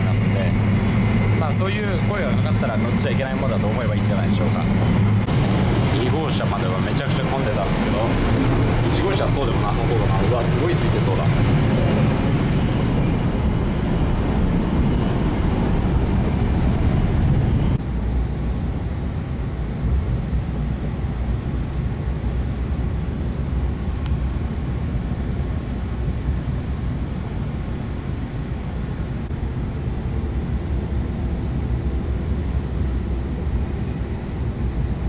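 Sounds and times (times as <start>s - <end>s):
train interior rumble and hum: 0.0s - 35.0s.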